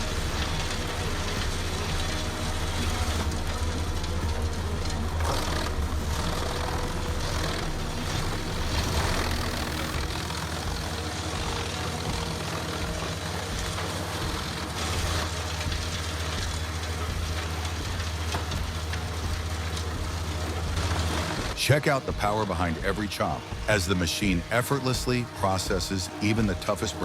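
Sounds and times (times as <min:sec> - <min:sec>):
wood chipper engine humming: 0:00.0 - 0:27.0.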